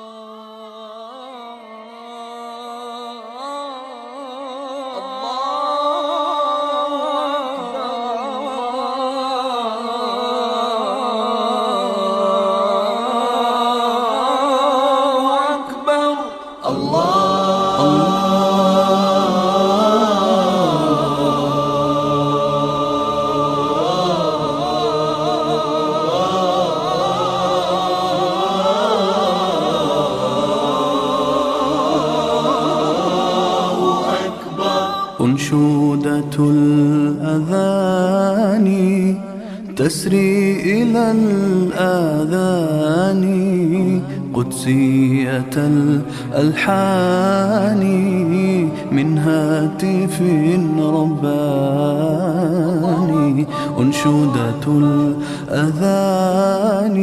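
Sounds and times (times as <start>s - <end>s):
a cappella group singing: 4.6s - 57.0s.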